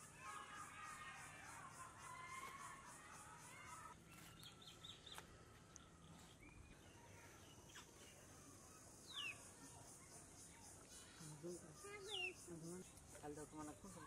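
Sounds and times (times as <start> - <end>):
faint small bird chirps: 0.2 - 13.1.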